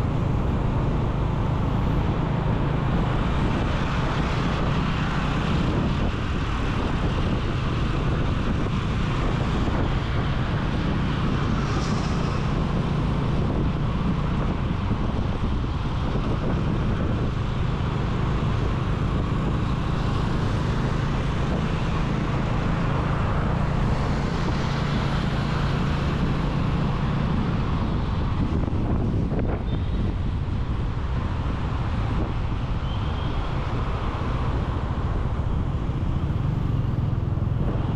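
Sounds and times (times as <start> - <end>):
road noise: 0.0 - 37.9
wind rushing over microphone: 0.0 - 37.9.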